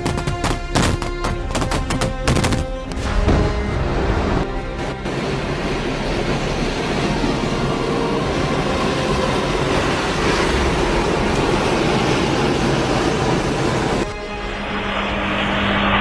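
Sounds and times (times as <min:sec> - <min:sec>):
storm wind roaring: 0:00.0 - 0:16.0.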